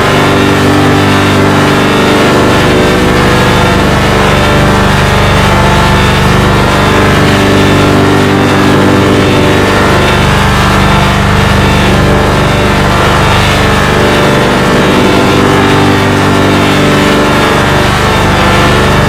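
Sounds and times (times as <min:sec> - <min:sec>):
processed buzzy drone: 0:00.0 - 0:19.0.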